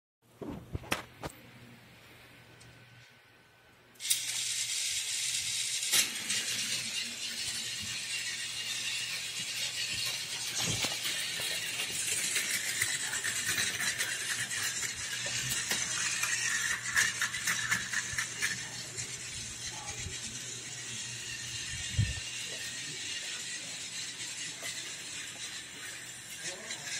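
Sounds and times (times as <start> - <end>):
toy train motor whirring: 4.0 - 26.9
toy train wheels clattering: 4.0 - 26.9.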